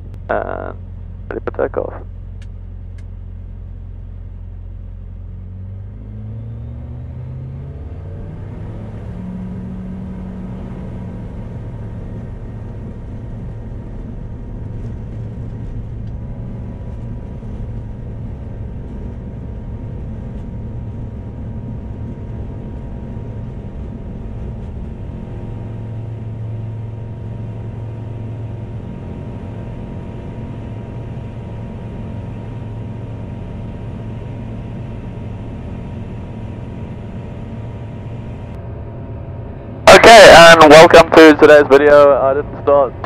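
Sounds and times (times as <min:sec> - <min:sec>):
aircraft engine and propeller drone: 0:00.0 - 0:43.0.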